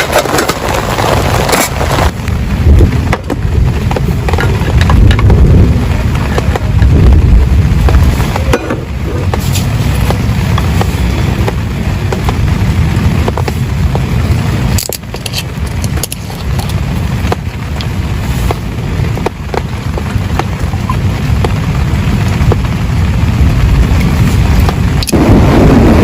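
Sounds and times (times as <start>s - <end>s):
deep steady rumble: 0.0s - 26.0s
heavy rain on a tent: 0.0s - 26.0s.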